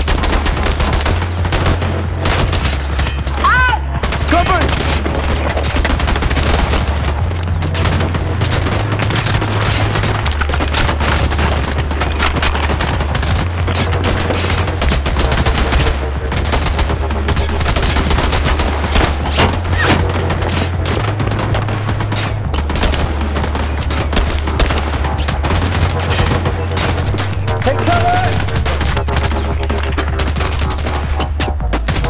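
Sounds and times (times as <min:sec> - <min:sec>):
low drone: 0:00.0 - 0:31.7
heavy continuous gunfire: 0:00.0 - 0:32.0.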